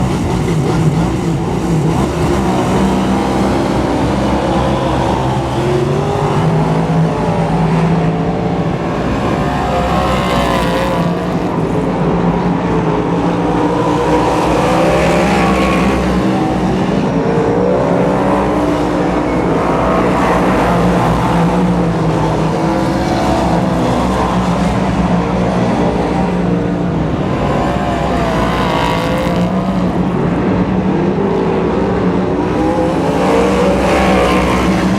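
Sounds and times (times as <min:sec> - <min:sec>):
racing car engines revving: 0:00.0 - 0:34.9.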